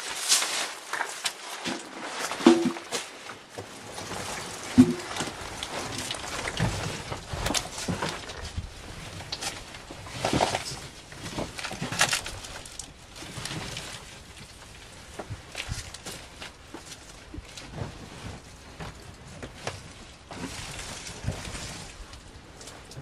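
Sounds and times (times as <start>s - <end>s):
footsteps crunching on rubble: 0.0s - 23.0s.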